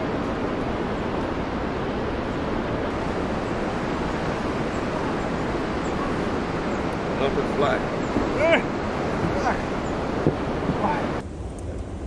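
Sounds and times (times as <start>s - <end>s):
river rapids rushing: 0.0s - 11.2s.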